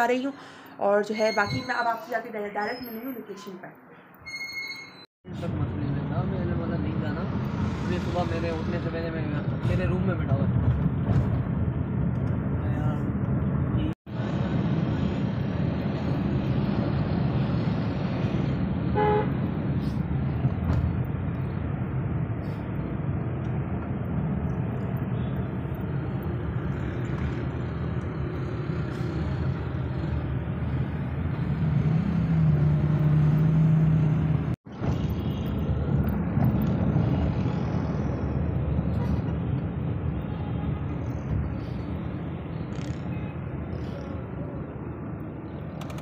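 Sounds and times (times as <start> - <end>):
street traffic noise: 0.0 - 46.0
car road and engine rumble: 5.3 - 46.0.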